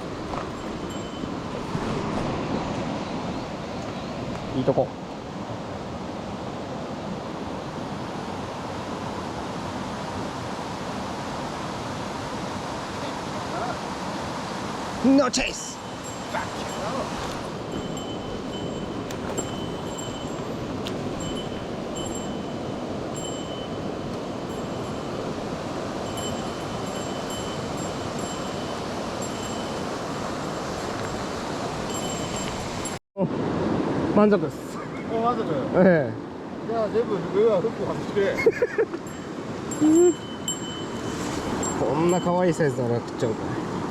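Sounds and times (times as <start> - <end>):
mountain stream rushing: 0.0 - 43.9.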